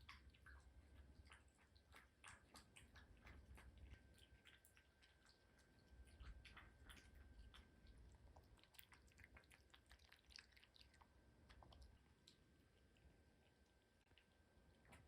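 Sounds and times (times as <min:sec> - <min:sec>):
cat chewing: 0:00.0 - 0:15.0.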